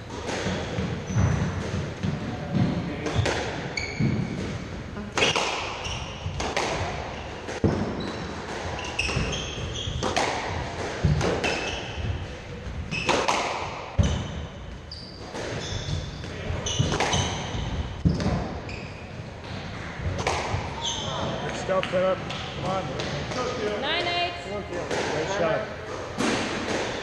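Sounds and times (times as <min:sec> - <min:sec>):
squash ball striking rackets and walls: 0:00.0 - 0:23.6, 0:24.8 - 0:27.0
shoes squeaking: 0:00.4 - 0:24.2.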